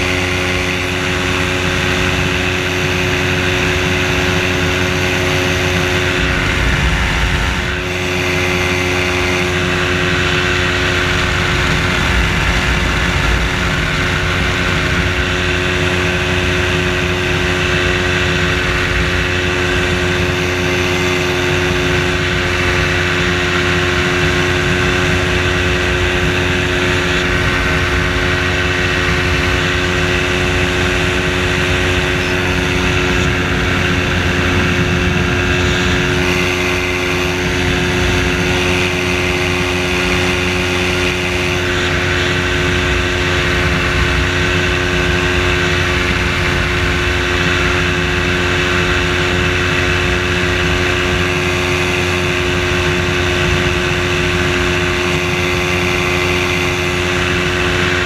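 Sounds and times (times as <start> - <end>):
microlight engine and propeller droning: 0.0 - 58.0.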